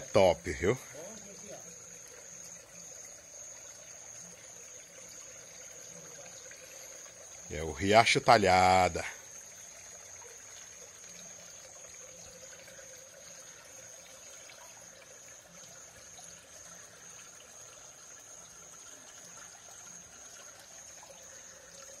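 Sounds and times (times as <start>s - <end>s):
creek water trickling: 0.0s - 22.0s.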